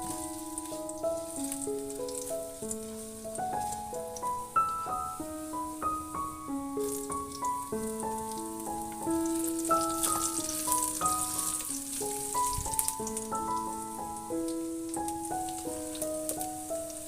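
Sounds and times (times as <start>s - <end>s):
food sizzling in a hot pan: 0.0s - 17.0s
soft piano music: 0.0s - 17.0s.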